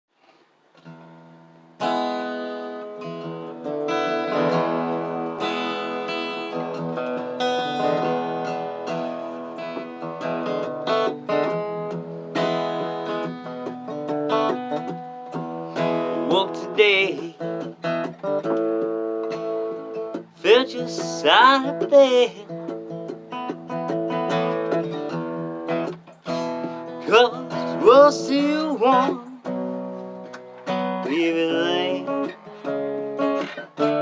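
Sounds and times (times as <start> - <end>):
acoustic guitar strummed chords: 0.8 - 34.0.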